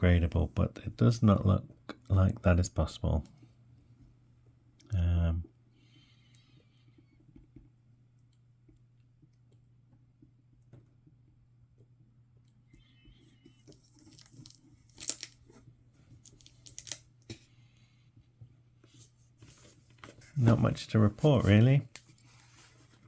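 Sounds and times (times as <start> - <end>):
crackly rustling and crinkling: 3.1 - 23.0.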